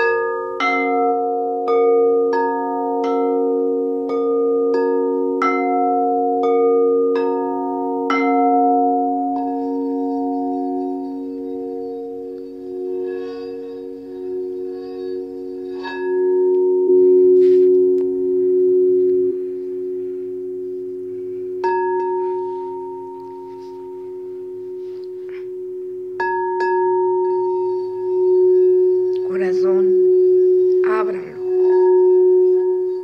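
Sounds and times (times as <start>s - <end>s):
singing bowl struck: 0.0s - 33.0s
singing bowls ringing: 0.0s - 33.0s.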